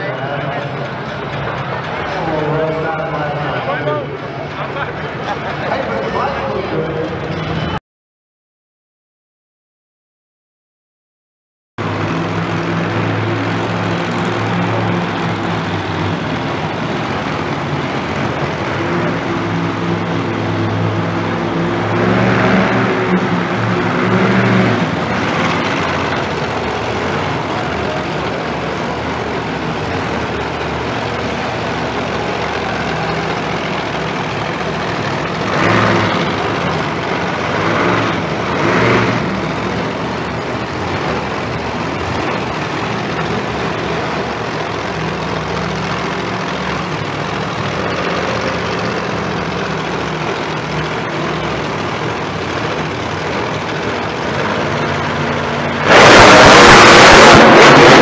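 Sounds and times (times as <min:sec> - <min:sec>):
monster truck engines idling: 0:00.0 - 0:07.8, 0:11.8 - 0:58.0.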